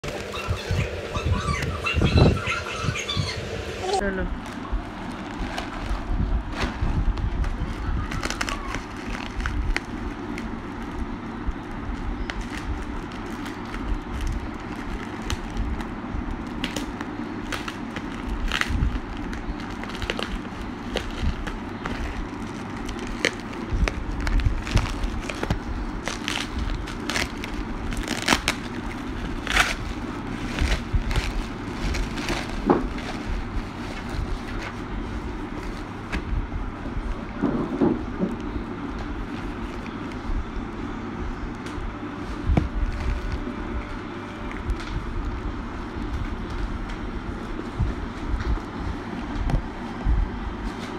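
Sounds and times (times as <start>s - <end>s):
low background rumble: 0.0s - 50.9s
bubble wrap and plastic crinkling: 3.8s - 40.6s, 41.6s - 50.9s.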